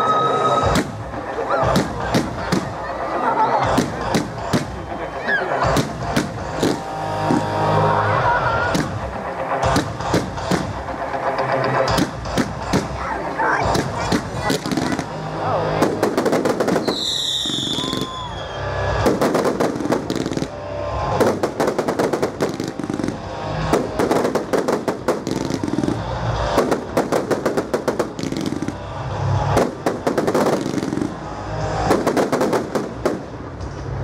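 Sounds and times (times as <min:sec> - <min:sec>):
music playing: 0:00.0 - 0:34.0
fireworks bangs and crackles: 0:00.6 - 0:07.8, 0:08.7 - 0:34.0.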